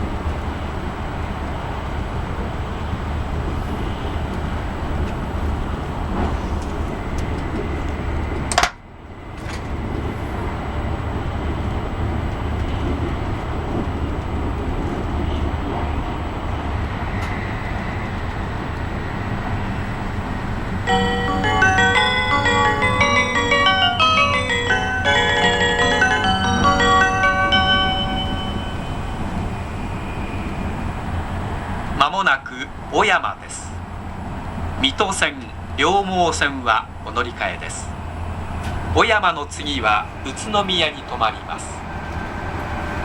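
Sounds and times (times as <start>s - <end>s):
train cabin rumble: 0.0s - 43.0s.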